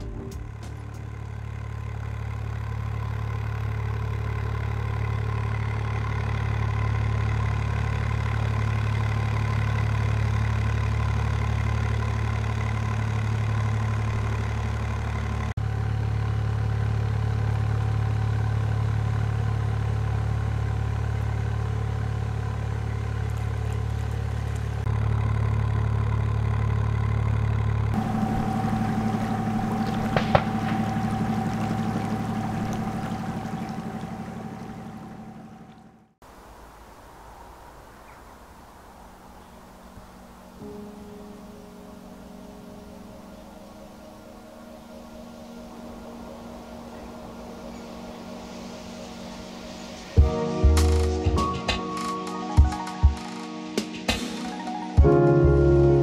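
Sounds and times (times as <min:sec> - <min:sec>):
boat engine droning: 0:00.0 - 0:36.7, 0:38.5 - 0:51.2.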